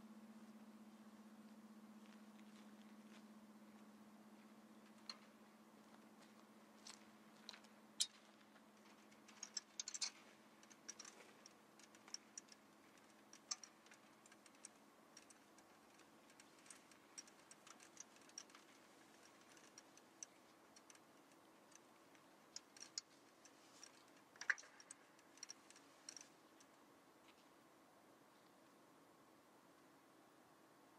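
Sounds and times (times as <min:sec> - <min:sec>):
faint clicks and ticks: 0:00.0 - 0:27.6
faint low hum: 0:00.0 - 0:30.9.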